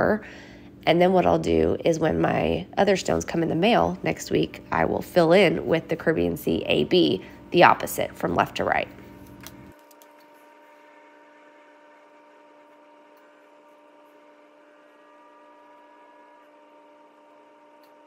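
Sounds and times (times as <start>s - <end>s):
faint steady hum of held tones: 0.0s - 18.0s.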